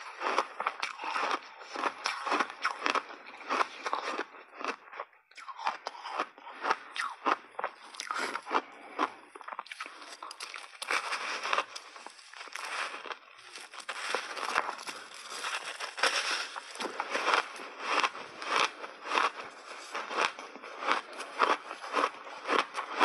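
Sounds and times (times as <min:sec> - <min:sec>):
ice being chewed and crunched: 0:00.0 - 0:23.0.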